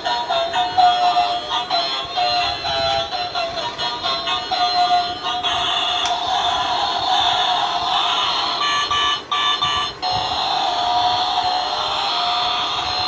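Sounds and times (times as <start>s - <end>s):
tinny electronic toy music: 0.0s - 13.0s.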